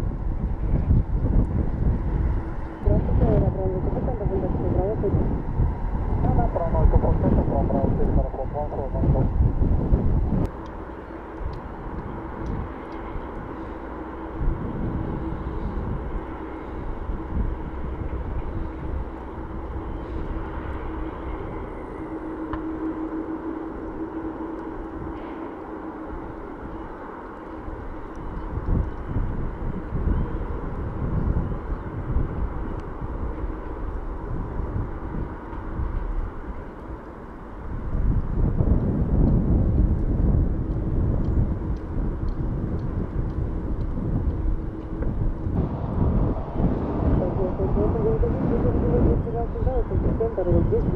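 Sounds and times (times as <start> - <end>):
faint steady hum: 0.0 - 50.9
jet engines taxiing: 0.0 - 50.9.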